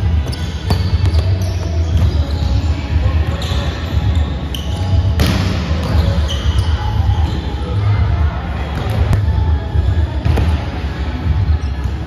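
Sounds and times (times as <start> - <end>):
low hum of hall: 0.0 - 12.0.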